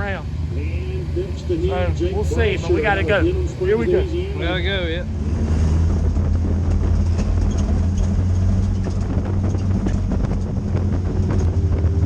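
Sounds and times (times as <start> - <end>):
race car engine droning: 0.0 - 12.0.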